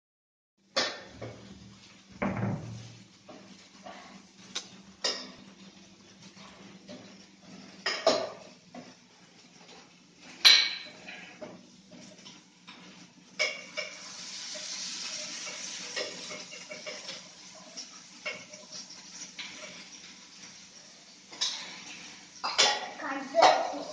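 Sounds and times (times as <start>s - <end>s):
pots and pans clattering: 0.7s - 4.4s, 5.0s - 23.9s.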